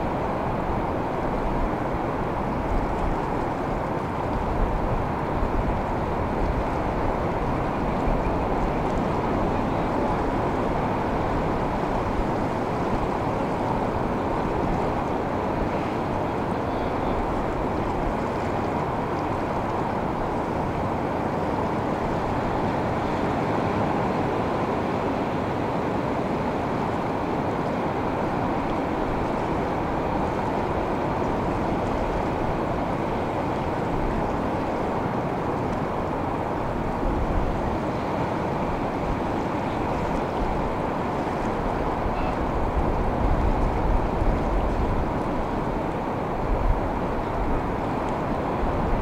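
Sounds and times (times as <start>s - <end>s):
ocean surf: 0.0s - 49.0s
wind rumbling on microphone: 0.0s - 49.0s.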